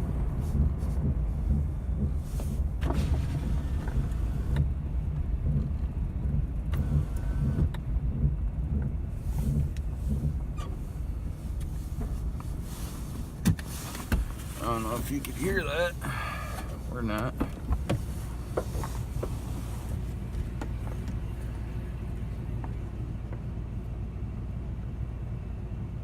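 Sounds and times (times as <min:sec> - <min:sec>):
truck engine low rumble: 0:00.0 - 0:26.0.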